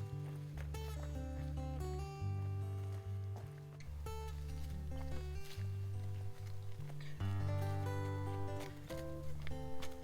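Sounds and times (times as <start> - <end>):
plucked guitar notes: 0.0 - 10.0.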